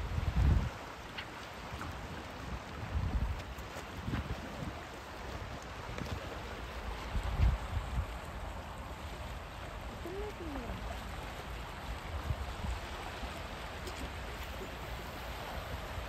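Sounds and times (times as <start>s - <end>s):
wind on microphone: 0.0s - 8.8s, 11.8s - 16.0s
small waves lapping on rocks: 0.0s - 16.0s.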